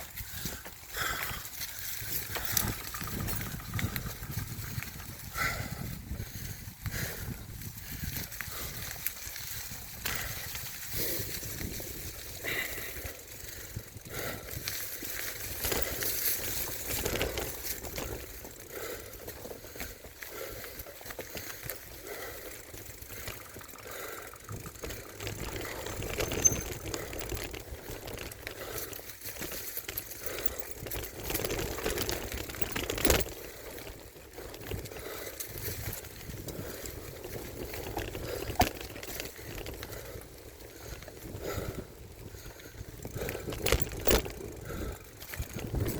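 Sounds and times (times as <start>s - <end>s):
bike rattling over bumps: 0.0s - 45.9s
bike tyres rolling on gravel: 0.0s - 45.9s.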